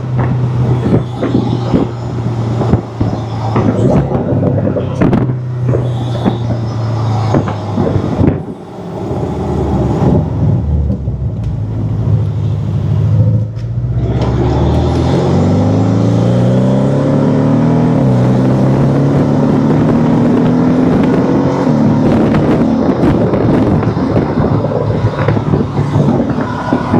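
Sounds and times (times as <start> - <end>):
car engine while driving: 0.0 - 26.9.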